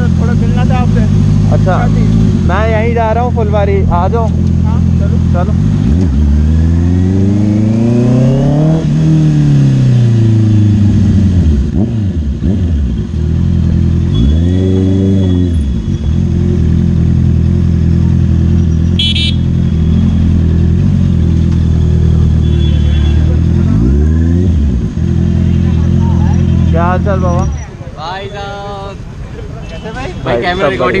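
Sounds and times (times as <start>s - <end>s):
motorcycle engine revving: 0.0s - 27.5s.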